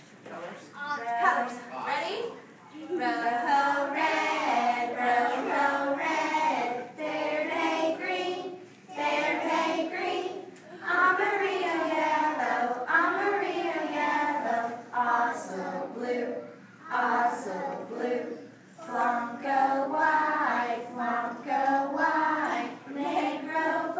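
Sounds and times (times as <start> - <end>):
children singing: 3.0 - 23.9.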